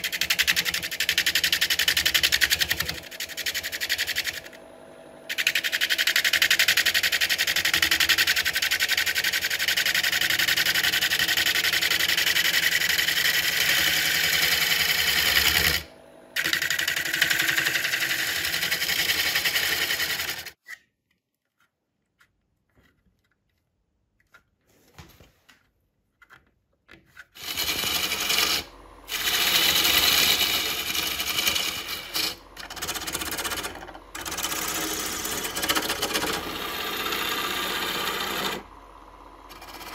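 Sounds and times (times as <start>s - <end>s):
wood lathe tool cutting: 0.0s - 20.6s, 27.4s - 39.9s.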